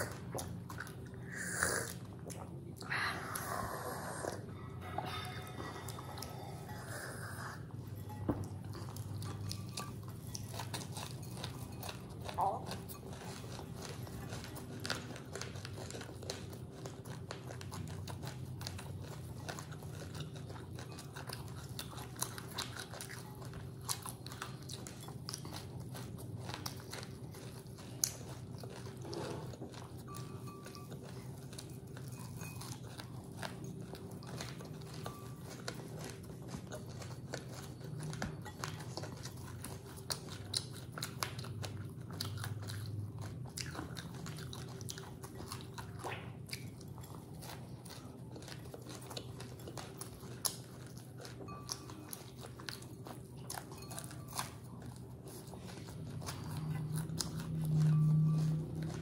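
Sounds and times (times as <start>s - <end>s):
crunchy chewing of puffed rice: 0.0s - 59.0s.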